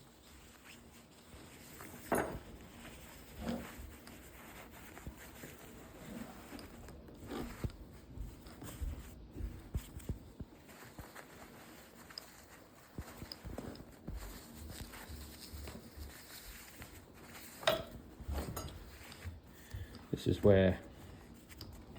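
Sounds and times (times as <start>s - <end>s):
rasping rubbing handling sounds: 0.0s - 21.9s.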